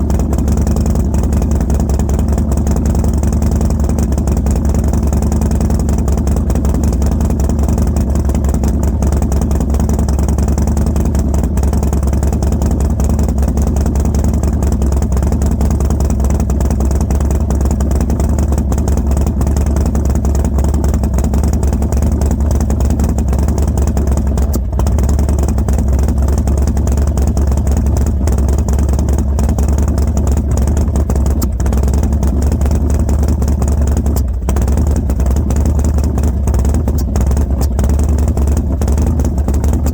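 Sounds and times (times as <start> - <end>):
motorcycle engine idling roughly: 0.0 - 39.9.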